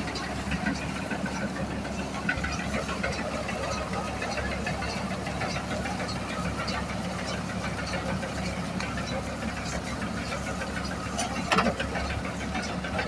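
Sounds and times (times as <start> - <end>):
baler machinery ticking rattle: 0.0 - 13.0
tractor diesel engine running: 0.0 - 13.0.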